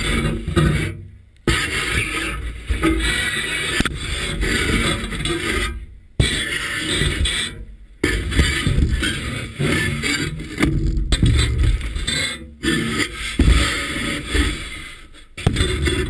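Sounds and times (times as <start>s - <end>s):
muffled underwater rumble and scraping: 0.0s - 16.0s.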